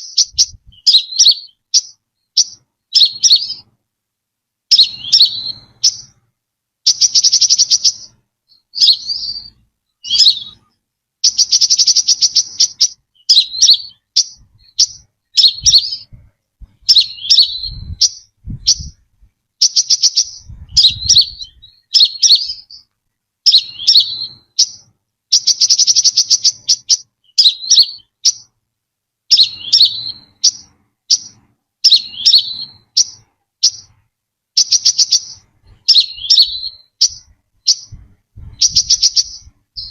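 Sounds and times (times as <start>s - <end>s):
buzzy bird trills: 0.0s - 3.7s, 4.7s - 6.2s, 6.8s - 28.5s, 29.3s - 34.0s, 34.6s - 39.9s
sunbird calling: 0.0s - 3.7s, 4.7s - 6.2s, 6.8s - 16.2s, 16.8s - 19.0s, 19.6s - 28.5s, 29.3s - 34.0s, 34.6s - 38.0s, 38.6s - 39.9s.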